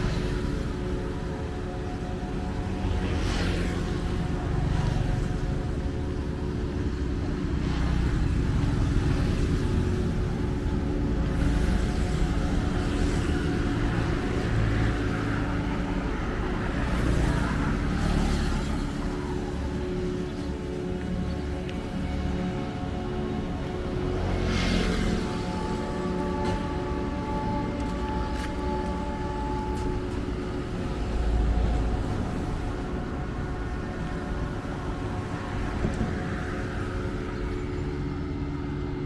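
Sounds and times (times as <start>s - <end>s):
low rumble of engines: 0.0s - 39.0s
vehicles swishing by: 0.0s - 39.0s.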